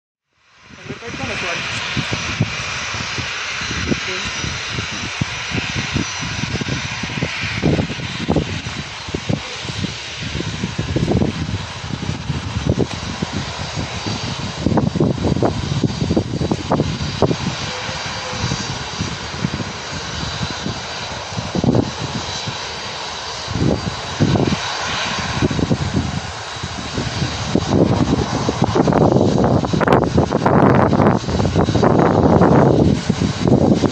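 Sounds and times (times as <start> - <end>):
jet engine roar: 0.4 - 33.9
low rumbling gusts: 0.4 - 33.9.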